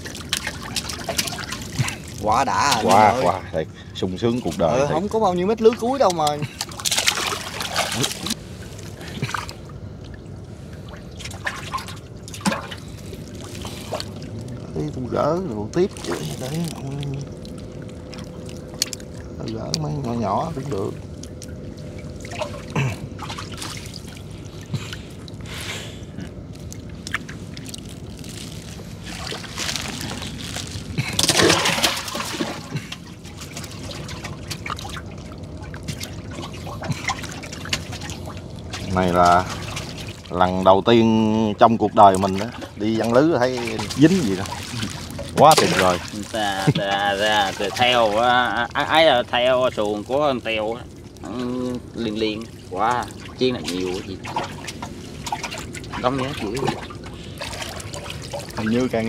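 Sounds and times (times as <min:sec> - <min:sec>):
water dripping and splashing: 0:00.0 - 0:59.0.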